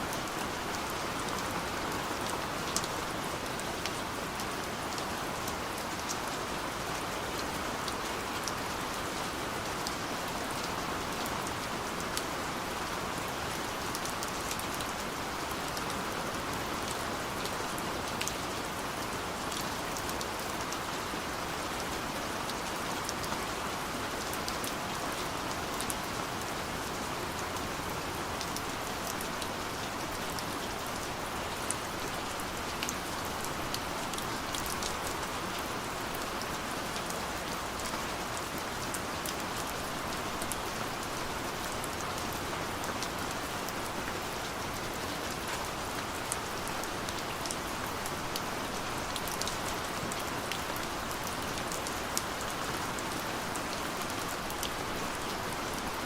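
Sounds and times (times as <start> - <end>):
light rain falling: 0.0 - 56.0.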